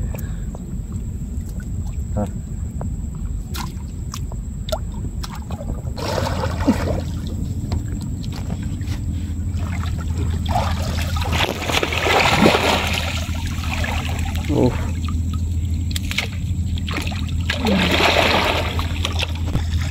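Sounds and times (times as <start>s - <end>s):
steady low hum: 0.0s - 19.9s
water splashing and sloshing: 0.0s - 19.9s.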